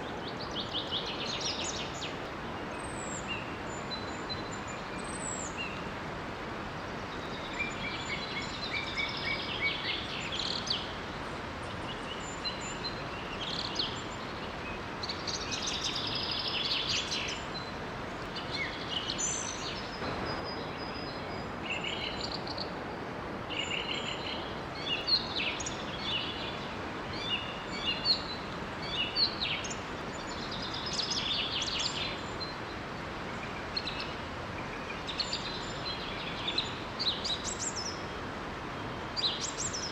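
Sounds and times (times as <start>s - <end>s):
small waterfall rushing: 0.0s - 39.9s
songbirds singing and chirping: 0.0s - 39.9s.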